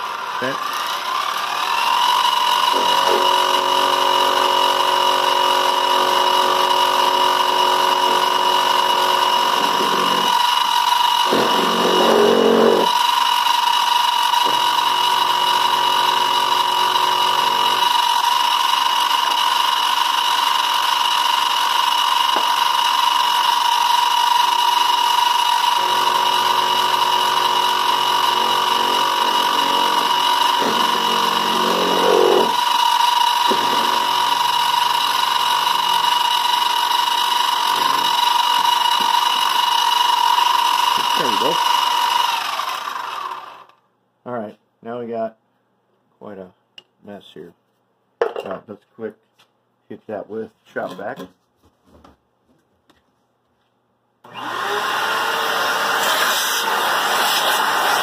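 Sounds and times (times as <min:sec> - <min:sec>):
end mill cutting metal: 0:00.0 - 0:43.7, 0:54.3 - 0:58.0
milling machine whining: 0:00.0 - 0:43.7, 0:54.3 - 0:58.0.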